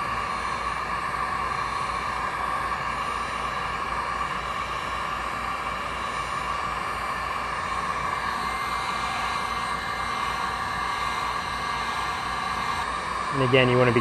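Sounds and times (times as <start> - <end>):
heat gun whirring: 0.0 - 14.0.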